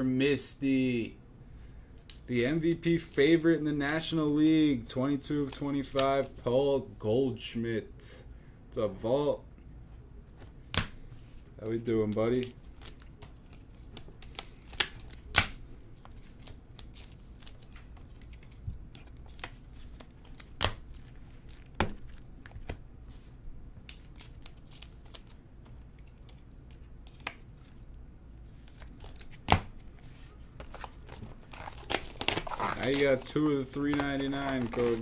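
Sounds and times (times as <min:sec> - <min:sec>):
room hum: 0:00.0 - 0:35.0.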